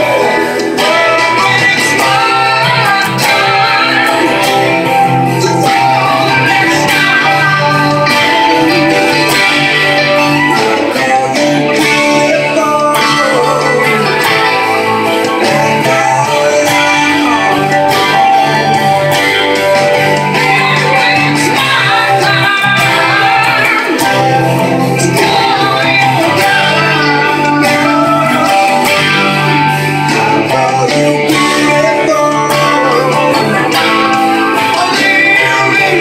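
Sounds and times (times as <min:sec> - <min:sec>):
bass: 0:00.0 - 0:36.0
electric guitar playing: 0:00.0 - 0:36.0
person singing: 0:00.0 - 0:36.0
recorded rock ballad: 0:00.0 - 0:36.0.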